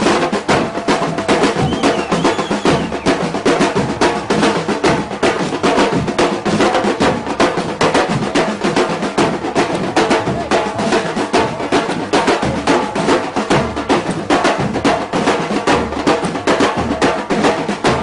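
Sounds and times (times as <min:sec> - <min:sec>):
percussion ensemble drumming: 0:00.0 - 0:18.0.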